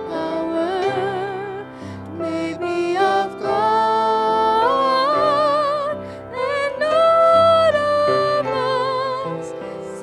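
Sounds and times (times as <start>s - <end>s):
piano accompaniment: 0.0s - 10.0s
woman singing: 0.0s - 10.0s.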